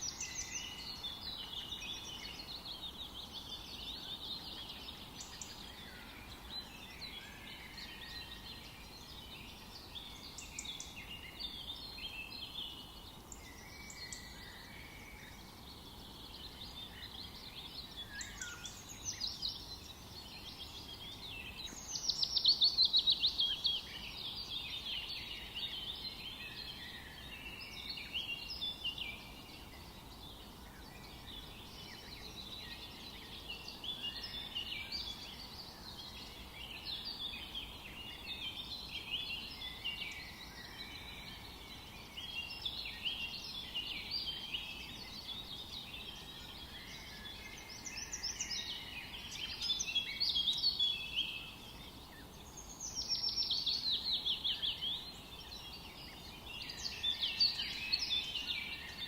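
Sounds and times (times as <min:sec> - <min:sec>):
birds singing and calling: 0:00.0 - 0:59.0
faint steady background hiss: 0:00.0 - 0:59.0.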